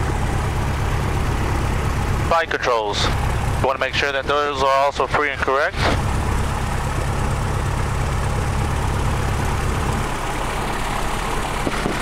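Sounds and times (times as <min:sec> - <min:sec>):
airplane engine idling: 0:00.0 - 0:12.0.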